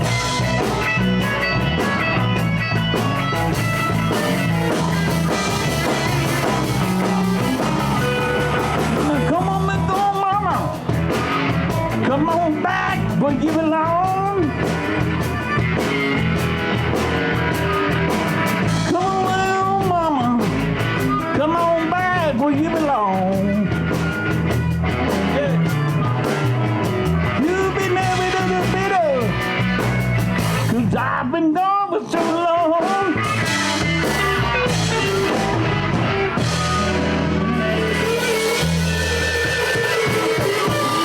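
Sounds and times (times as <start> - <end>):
guitar lead with bent notes: 0.0 - 31.2, 32.1 - 41.0
electric blues band playing: 0.0 - 41.0.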